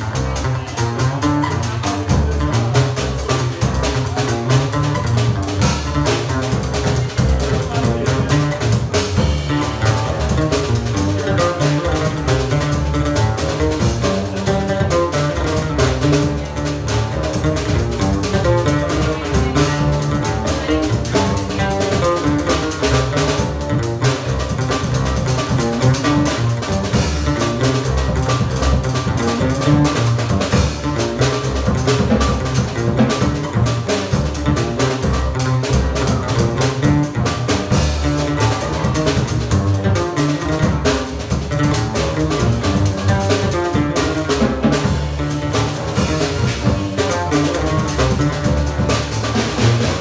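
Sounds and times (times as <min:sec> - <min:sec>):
drum kit with cymbals: 0:00.0 - 0:50.0
upright double bass: 0:00.0 - 0:50.0
oud melody: 0:00.4 - 0:50.0.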